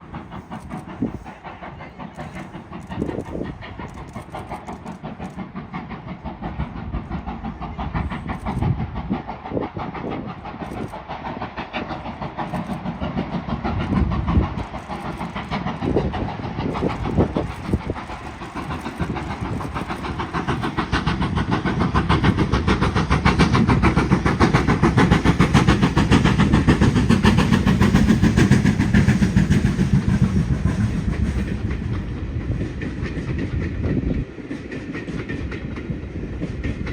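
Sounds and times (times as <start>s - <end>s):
steam locomotive running: 0.0s - 36.9s.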